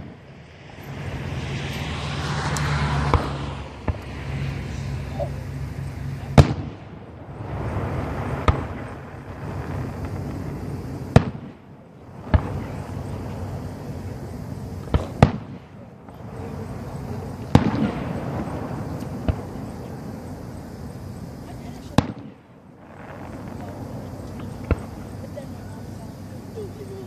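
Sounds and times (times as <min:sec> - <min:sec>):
continuous noisy background: 0:00.0 - 0:27.0.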